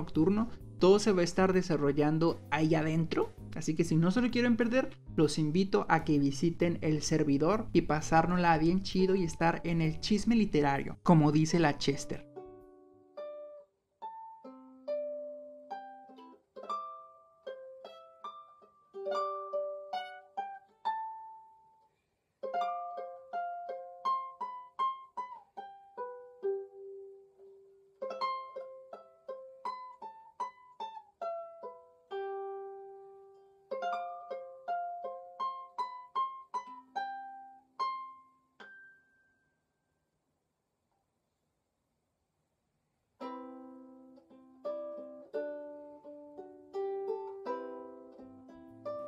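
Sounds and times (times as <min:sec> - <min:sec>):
plucked melody: 0:00.0 - 0:39.4, 0:43.2 - 0:49.0.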